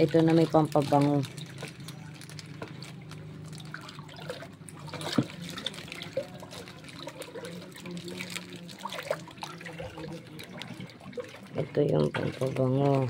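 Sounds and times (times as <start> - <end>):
plastic bag crinkling: 0.0 - 10.9
liquid sloshing: 0.0 - 13.0.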